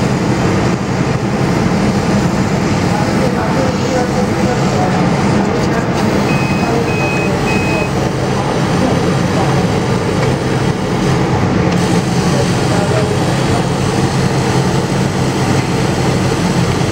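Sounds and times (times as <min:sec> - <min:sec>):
machine fans low hum: 0:00.0 - 0:16.9.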